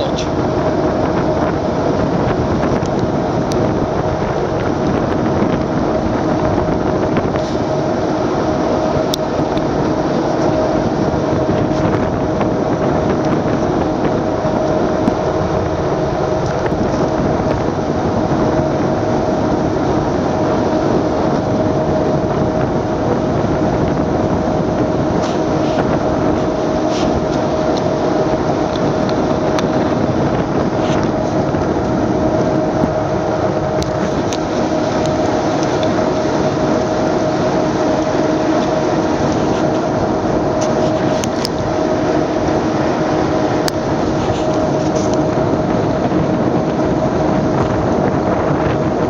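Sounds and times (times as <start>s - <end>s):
boat engine humming: 0.0s - 49.0s
rushing water: 0.0s - 49.0s
wind on microphone: 0.0s - 49.0s.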